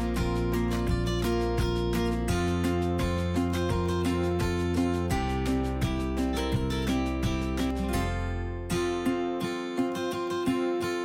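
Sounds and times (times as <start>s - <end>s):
steady beat: 0.0s - 9.2s
strummed acoustic guitar: 0.0s - 11.0s.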